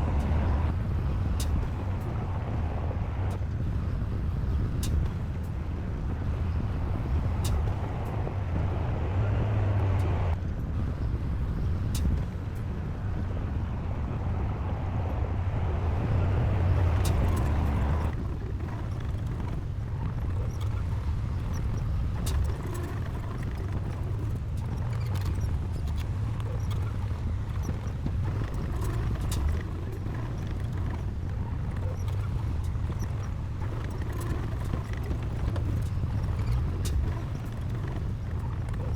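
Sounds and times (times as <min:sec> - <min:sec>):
bulldozer diesel engine working: 0:00.0 - 0:03.3, 0:04.8 - 0:10.4, 0:13.9 - 0:38.9.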